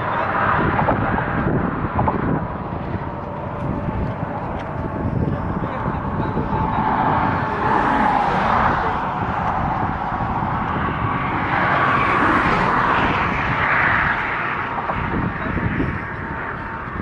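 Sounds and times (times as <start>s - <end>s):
highway traffic passing: 0.0s - 17.0s
wind buffeting microphone: 0.0s - 17.0s.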